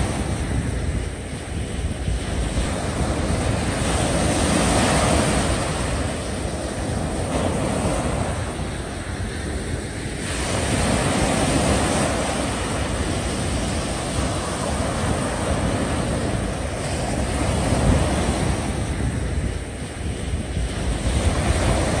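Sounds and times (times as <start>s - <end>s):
sea surf washing in: 0.0s - 22.0s
wind buffeting microphone: 0.0s - 22.0s.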